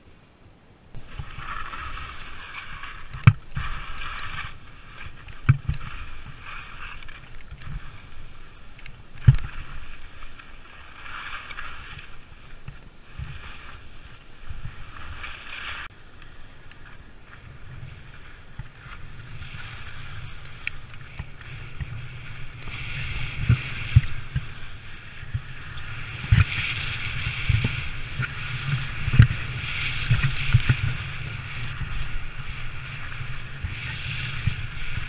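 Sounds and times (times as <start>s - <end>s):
wind buffeting microphone: 0.9s - 35.0s
skis scraping on snow: 1.0s - 35.0s.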